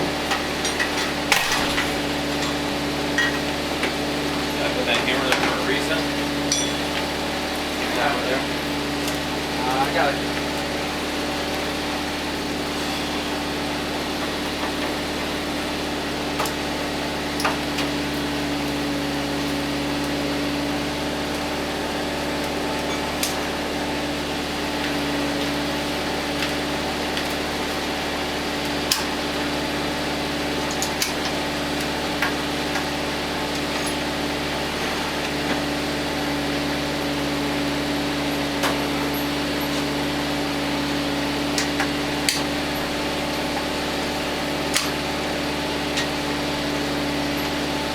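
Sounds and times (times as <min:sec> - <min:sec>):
mechanical hum: 0:00.0 - 0:47.9.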